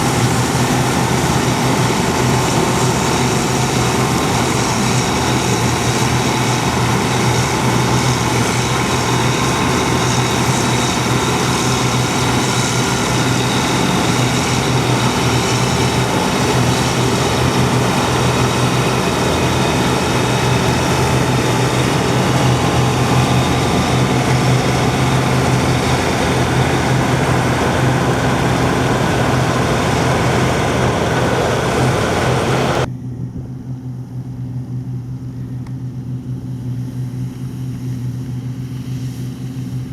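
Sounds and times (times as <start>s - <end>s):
low diesel engine hum: 0.0s - 33.0s.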